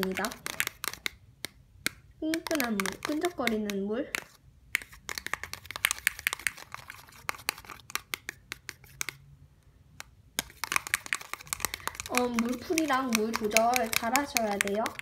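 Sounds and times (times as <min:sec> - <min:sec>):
stirrer clicking against plastic cup: 0:00.0 - 0:09.2, 0:10.0 - 0:15.0.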